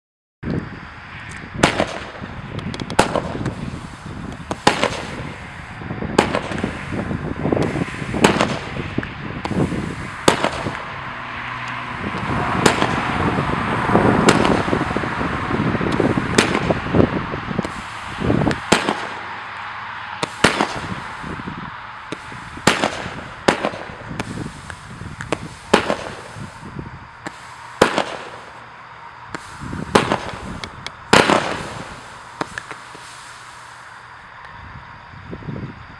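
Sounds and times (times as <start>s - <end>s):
fireworks bangs: 1.6s - 11.2s, 12.1s - 28.6s, 29.3s - 33.8s
fireworks crackle: 1.6s - 34.3s.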